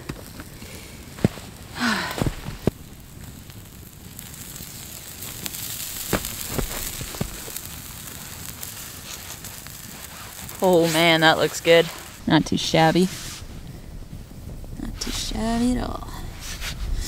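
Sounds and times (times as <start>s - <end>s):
campfire crackling and hissing: 0.0s - 17.0s.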